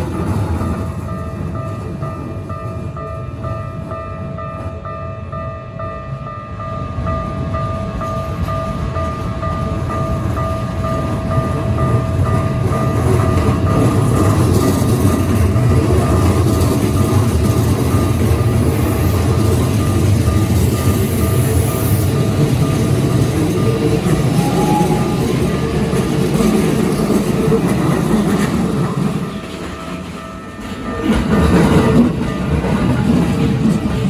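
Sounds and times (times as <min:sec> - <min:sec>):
electric train passing: 0:00.0 - 0:34.0
level crossing warning bell: 0:00.3 - 0:33.8.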